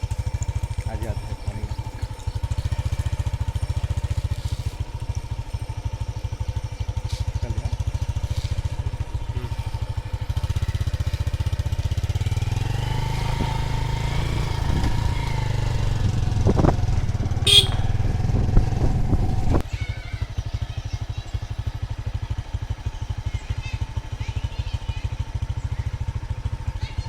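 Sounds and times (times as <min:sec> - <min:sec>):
small engine throbbing: 0:00.0 - 0:27.0.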